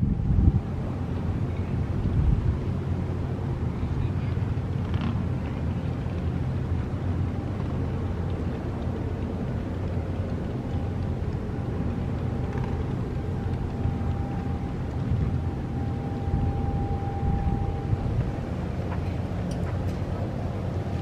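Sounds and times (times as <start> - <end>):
boat engine rumble: 0.0 - 21.0
faint thin whine: 0.6 - 21.0.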